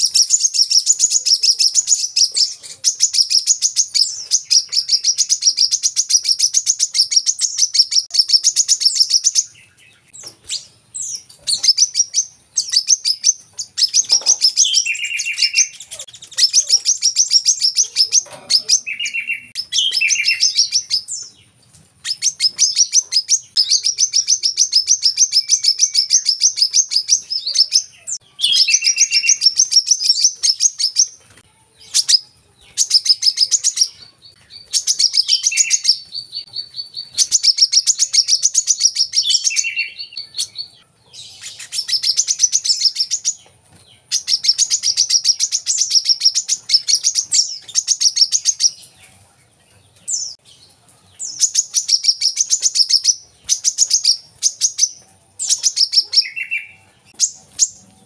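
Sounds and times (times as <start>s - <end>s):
bird singing high chattering notes: 0.0s - 48.9s, 51.2s - 57.9s.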